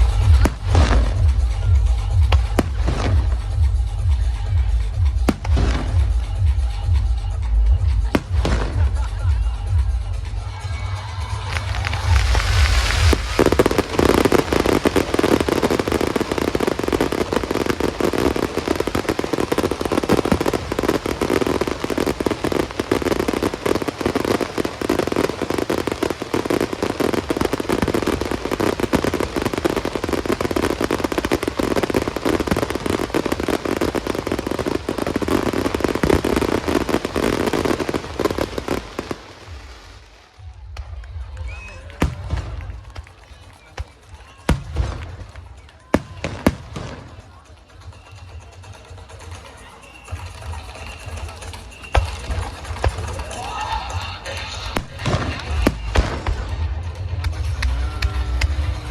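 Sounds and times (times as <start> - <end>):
fireworks bangs and crackles: 0.0 - 58.9.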